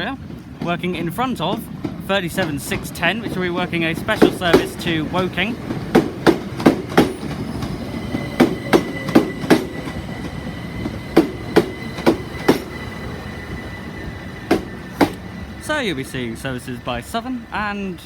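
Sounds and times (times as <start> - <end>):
thin high tone from train: 0.0 - 18.0
train wheels knocking over rail joints: 0.0 - 18.0.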